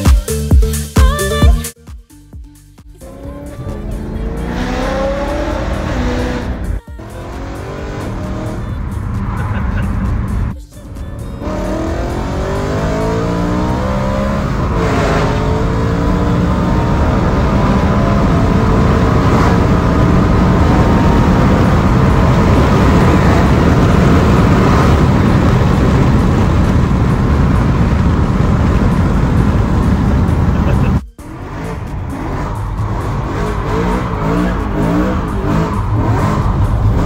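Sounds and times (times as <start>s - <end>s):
car engine accelerating hard: 3.0s - 37.0s
road and wind noise: 3.0s - 37.0s.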